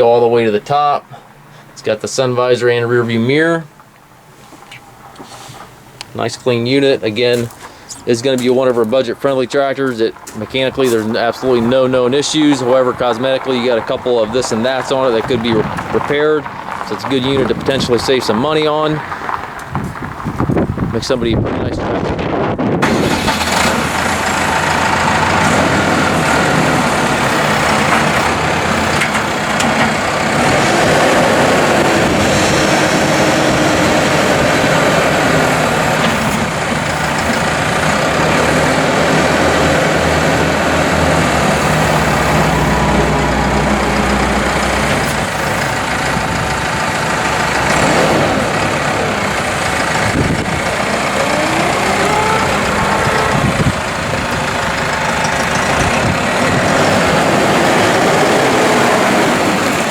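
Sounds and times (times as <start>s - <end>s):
tractor diesel engine running: 2.6s - 59.9s.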